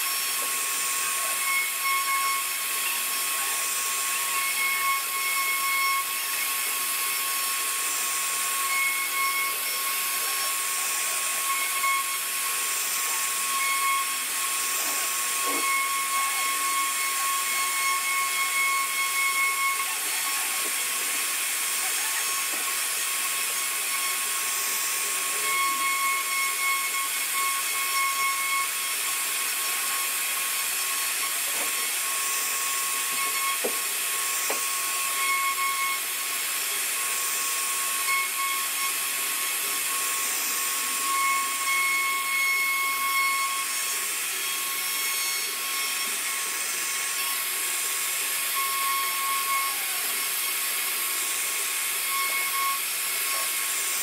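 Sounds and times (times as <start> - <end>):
router spindle cutting wood: 0.0 - 54.0.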